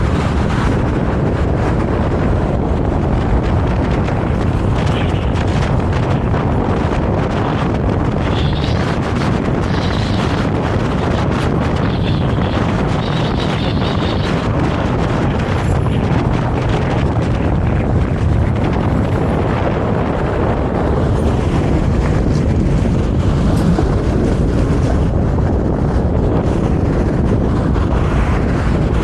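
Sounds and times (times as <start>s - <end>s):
tram running along track: 0.0s - 29.0s.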